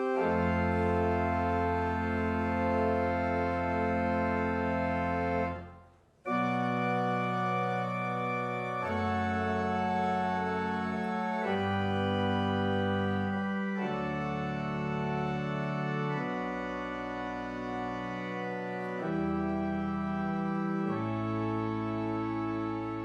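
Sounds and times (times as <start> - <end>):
organ playing held chords: 0.0 - 23.0.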